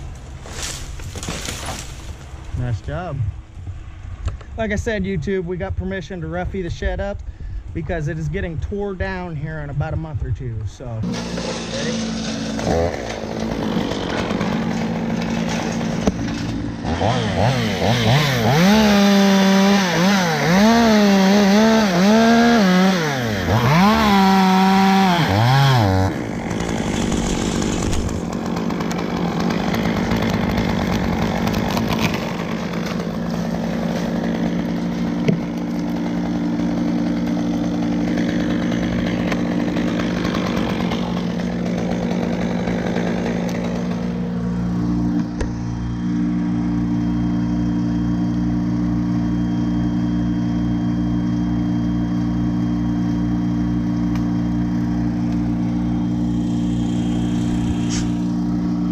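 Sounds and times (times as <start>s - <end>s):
chainsaw cutting wood: 0.0s - 2.5s, 11.0s - 58.9s
steady engine hum: 1.8s - 58.9s.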